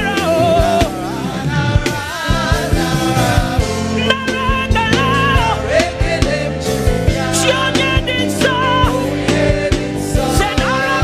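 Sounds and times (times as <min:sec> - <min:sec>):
gospel band playing: 0:00.0 - 0:11.0
people singing: 0:00.0 - 0:11.0.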